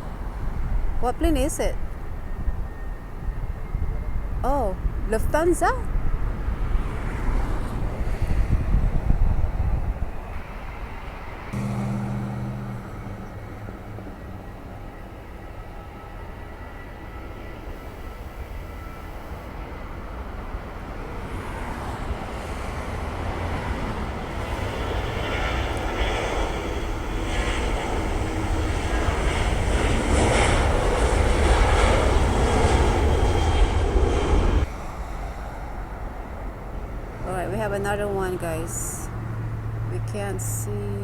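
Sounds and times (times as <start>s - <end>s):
jet airliner engines: 0.0s - 41.0s.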